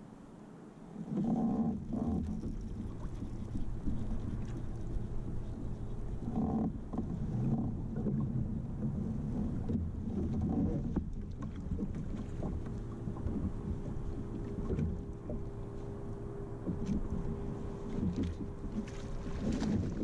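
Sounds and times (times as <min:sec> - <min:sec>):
water against kayak: 0:00.0 - 0:20.0
wind rumbling on microphone: 0:00.9 - 0:20.0.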